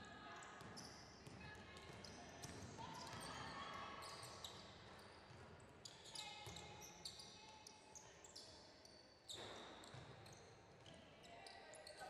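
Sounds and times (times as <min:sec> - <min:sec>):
sneaker squeaks on gym floor: 0:00.6 - 0:12.0.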